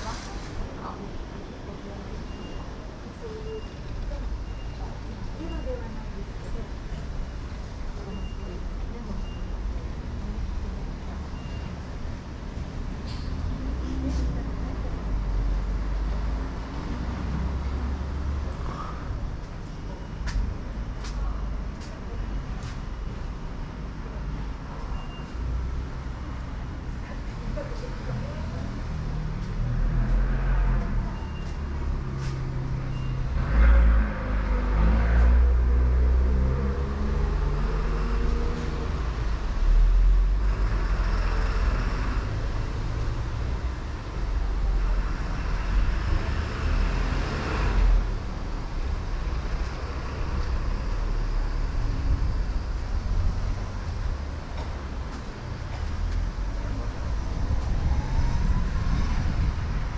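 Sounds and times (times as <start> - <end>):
passing road vehicles: 0.0 - 59.9.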